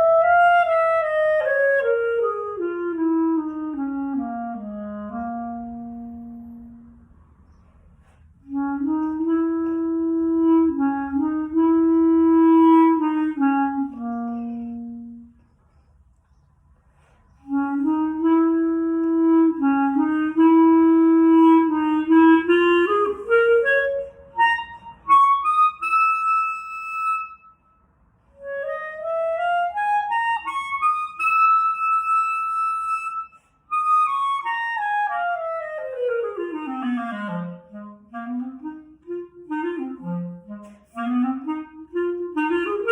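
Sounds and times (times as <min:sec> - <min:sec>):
solo clarinet playing blues: 0:00.0 - 0:07.0, 0:08.4 - 0:15.4, 0:17.4 - 0:27.6, 0:28.4 - 0:42.9.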